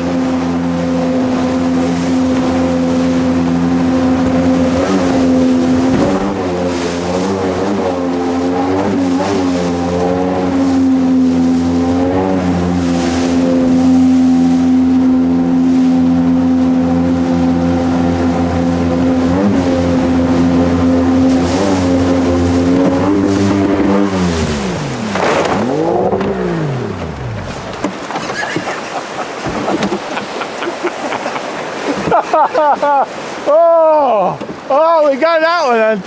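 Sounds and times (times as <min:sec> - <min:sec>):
jet boat engine running: 0:00.0 - 0:36.0
water rushing against hull: 0:00.0 - 0:36.0.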